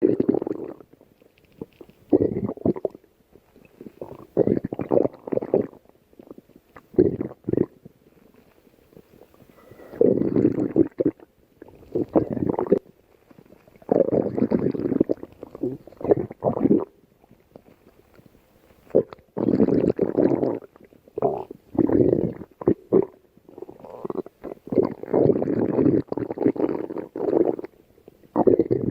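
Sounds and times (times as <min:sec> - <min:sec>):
stomach growling: 0:00.0 - 0:28.9.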